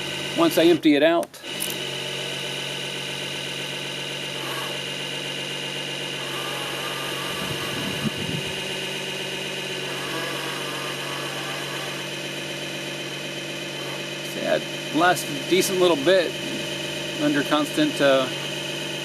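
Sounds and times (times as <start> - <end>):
electric water pump humming: 0.0 - 19.0.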